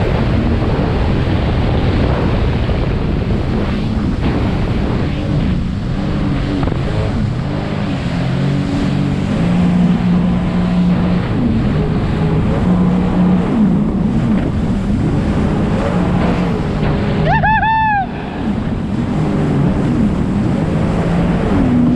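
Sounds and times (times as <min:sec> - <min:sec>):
motorboat engine: 0:00.0 - 0:21.9
rushing water: 0:00.0 - 0:21.9
wind noise on microphone: 0:00.0 - 0:21.9.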